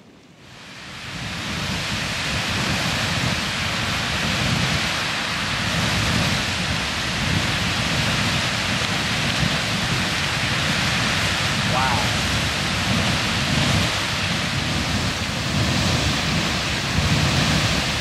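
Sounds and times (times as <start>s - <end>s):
geyser rushing water and steam: 0.0s - 18.0s.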